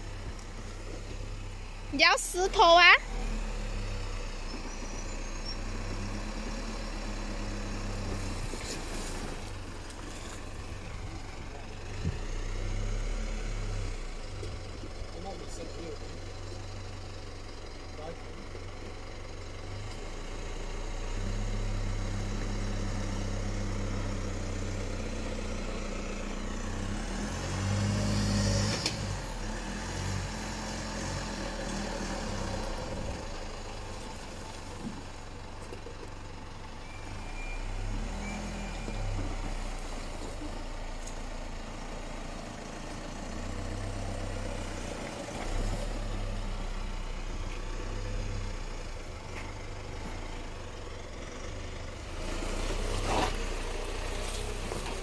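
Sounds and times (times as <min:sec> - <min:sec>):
truck engine revving in mud: 0:00.0 - 0:17.3, 0:19.5 - 0:35.2, 0:36.8 - 0:55.0.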